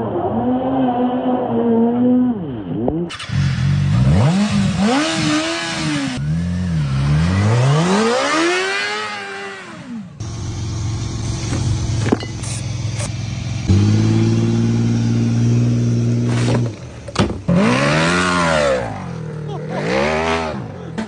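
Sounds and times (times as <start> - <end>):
vehicle engine revving: 0.4 - 21.0.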